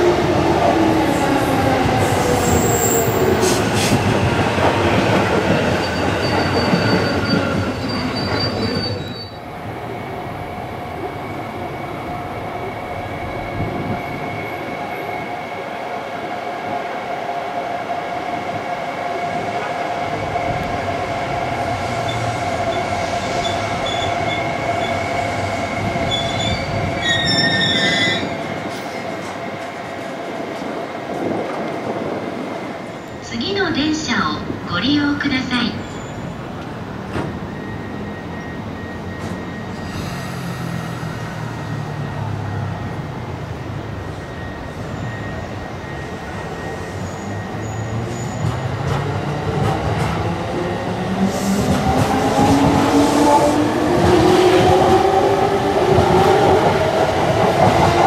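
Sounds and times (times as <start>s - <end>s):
electric train passing: 0.0s - 58.0s
train whining to a stop: 0.0s - 58.0s.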